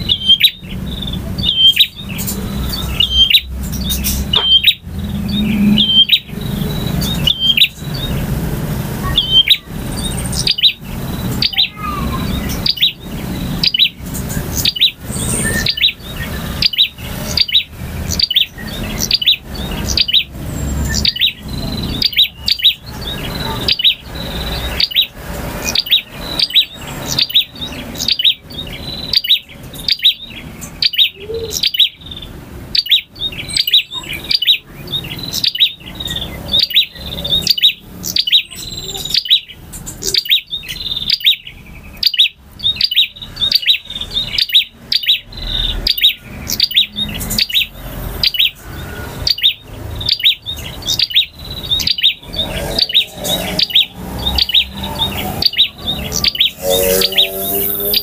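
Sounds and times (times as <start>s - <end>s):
bird singing sharp high chirps: 0.0s - 58.0s.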